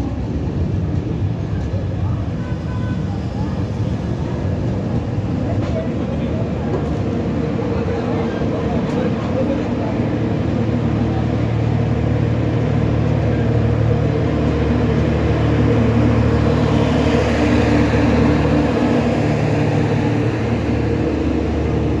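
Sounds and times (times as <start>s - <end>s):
passenger train running past: 0.0s - 22.0s.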